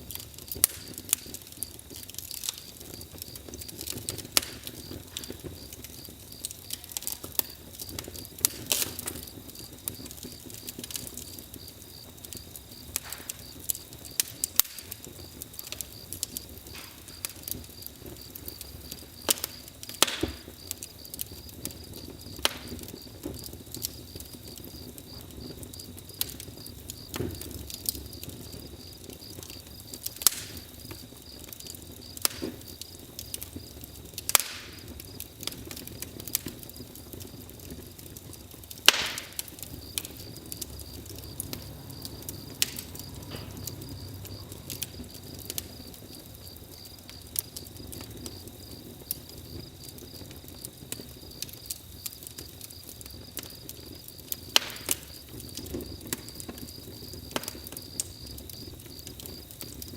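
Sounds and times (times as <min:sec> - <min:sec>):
wood fire crackling: 0:00.0 - 0:59.9
crickets chirring: 0:00.2 - 0:59.9.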